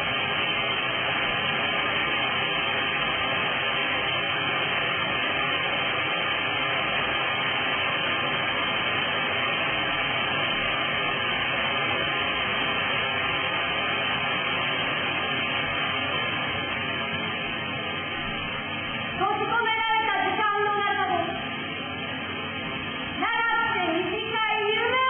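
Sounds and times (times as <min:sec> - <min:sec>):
tv static hiss: 0:00.0 - 0:25.0.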